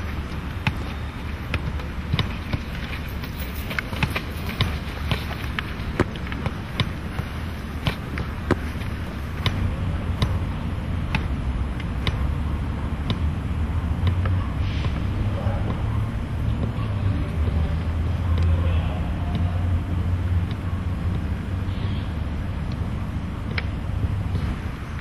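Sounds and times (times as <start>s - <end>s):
soccer ball kick thuds: 0.0s - 25.0s.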